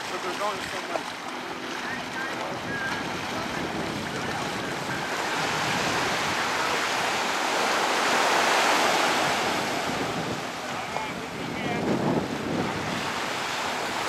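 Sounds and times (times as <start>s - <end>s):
surf washing ashore: 0.0s - 14.0s
wind buffeting microphone: 1.4s - 14.0s.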